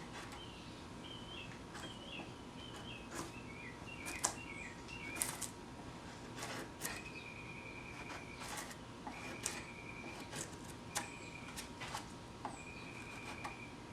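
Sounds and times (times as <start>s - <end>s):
bird chirping: 0.4s - 5.5s, 6.8s - 11.7s, 12.5s - 13.8s.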